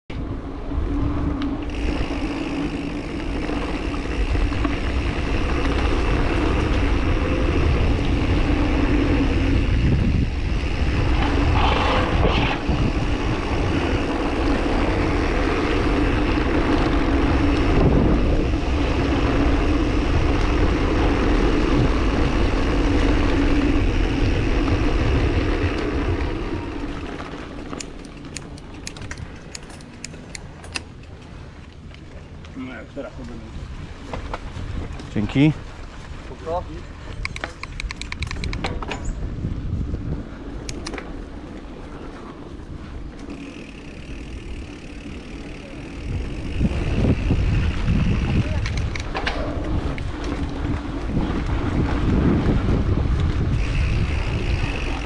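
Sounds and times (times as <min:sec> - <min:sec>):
wind rushing over microphone: 0:00.1 - 0:55.0
tyres rumbling on paving: 0:00.2 - 0:55.0
light bike clicks: 0:00.9 - 0:33.4, 0:34.0 - 0:39.3, 0:40.4 - 0:55.0.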